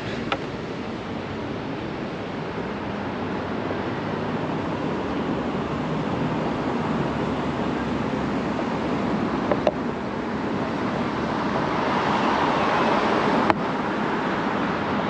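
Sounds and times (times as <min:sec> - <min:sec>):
construction site rumble and hiss: 0:00.0 - 0:15.0.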